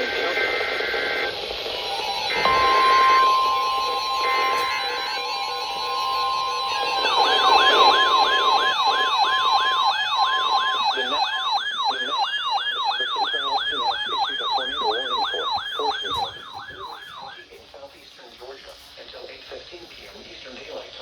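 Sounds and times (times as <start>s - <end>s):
warning siren yelping: 0.0s - 17.4s
weather radio alert tone: 0.0s - 17.6s.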